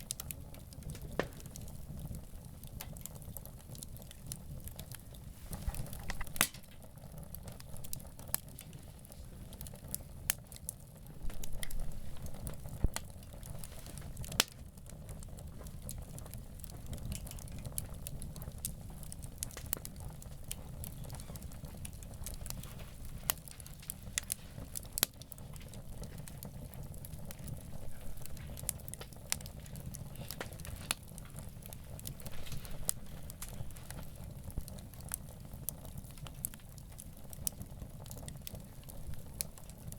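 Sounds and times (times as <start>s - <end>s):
campfire crackling and popping: 0.0s - 39.9s
low steady fire rumble: 0.0s - 39.9s.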